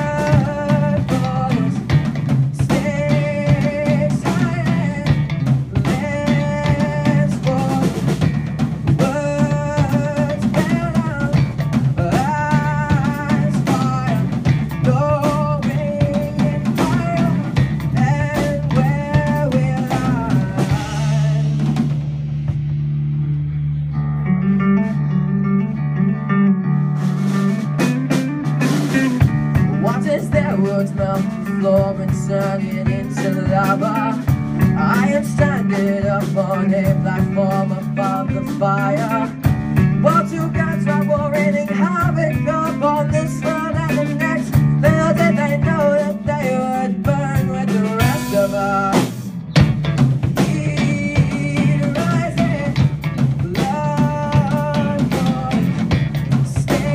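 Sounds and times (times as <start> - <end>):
bass guitar: 0.0 - 56.9
drum kit: 0.0 - 56.9
electric guitar: 0.0 - 56.9.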